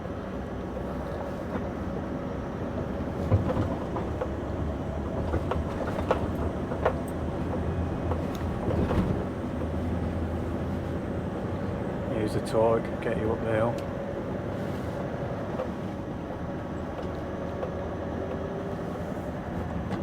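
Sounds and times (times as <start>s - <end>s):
diesel engine low drone: 0.0s - 20.0s.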